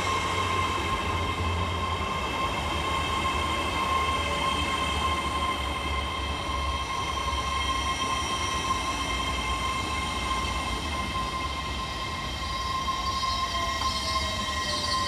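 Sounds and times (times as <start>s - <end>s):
train high whine: 0.0s - 15.0s.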